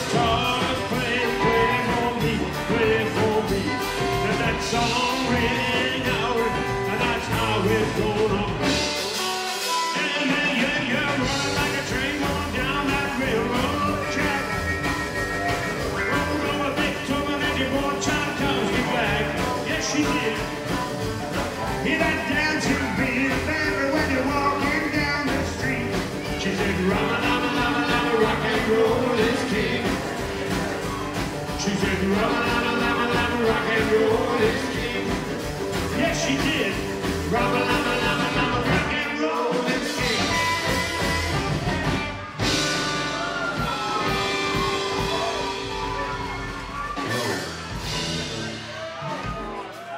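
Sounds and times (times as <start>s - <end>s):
rockabilly band playing: 0.0s - 49.9s.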